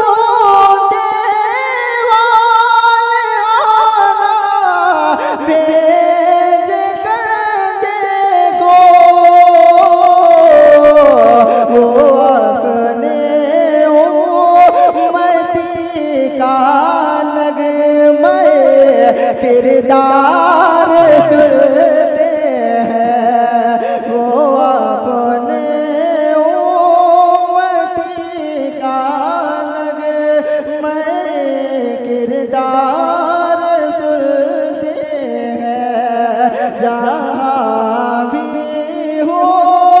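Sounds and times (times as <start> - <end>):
man singing devotional song: 0.0 - 40.0.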